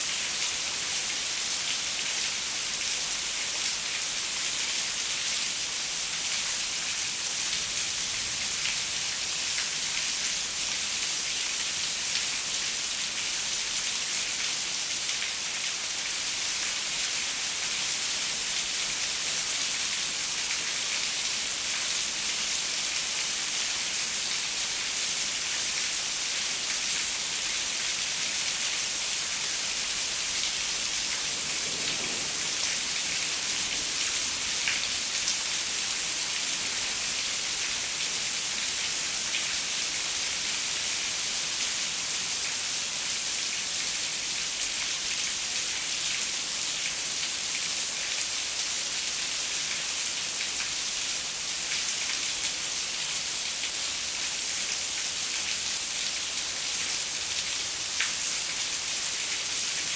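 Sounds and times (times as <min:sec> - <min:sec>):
rain on a window: 0:00.1 - 0:59.9.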